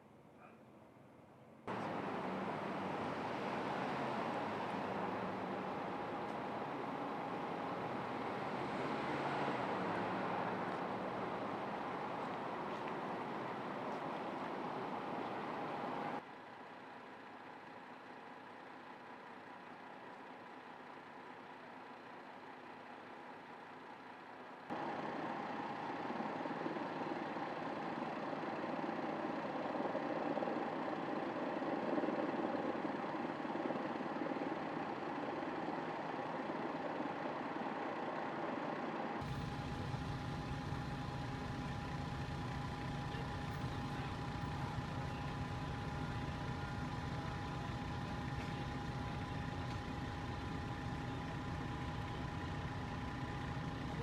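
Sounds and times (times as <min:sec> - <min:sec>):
vehicle engines idling: 0:01.4 - 0:54.0.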